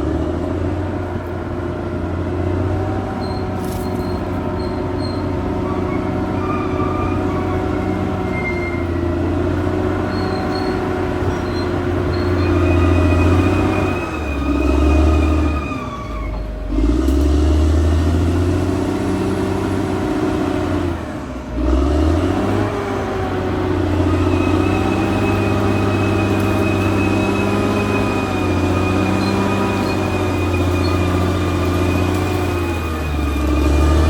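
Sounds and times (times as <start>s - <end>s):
bulldozer diesel engine under load: 0.0s - 34.0s
high squeals: 2.6s - 34.0s.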